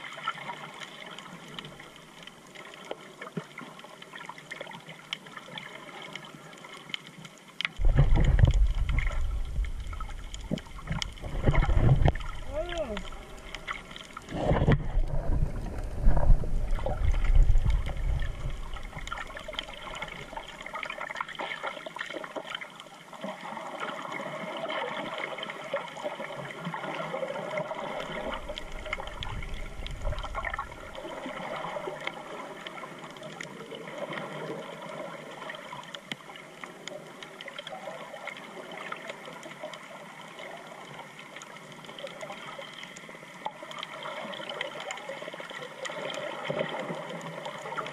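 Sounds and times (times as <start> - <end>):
faint crackle of tiny clicks: 0.0 - 47.9
low rumbling of moving water: 0.0 - 47.9
muffled underwater wash: 0.0 - 47.9.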